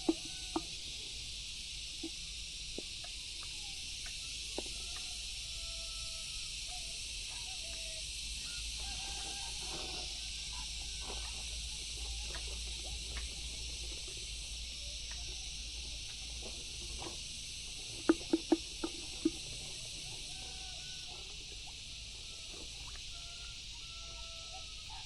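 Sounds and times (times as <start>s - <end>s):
high insect drone: 0.0s - 25.0s.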